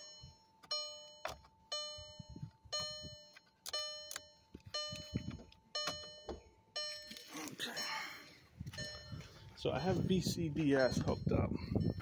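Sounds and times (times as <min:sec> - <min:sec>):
car warning chime: 0:00.0 - 0:12.0.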